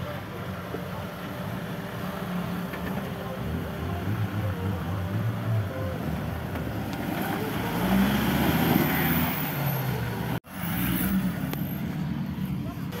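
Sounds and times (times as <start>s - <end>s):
off-road vehicle engine under load: 0.0s - 13.0s.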